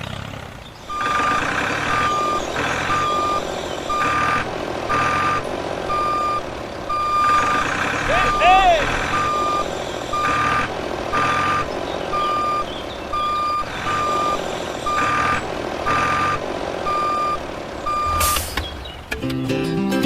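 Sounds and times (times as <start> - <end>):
engine hum: 0.0 - 20.0
reversing alarm beeping: 0.9 - 18.6.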